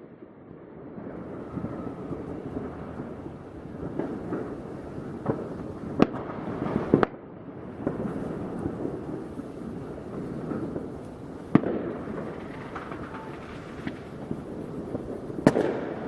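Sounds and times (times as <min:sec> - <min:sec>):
fireworks crackling pops: 0:00.9 - 0:16.0
firework bangs: 0:01.0 - 0:16.0.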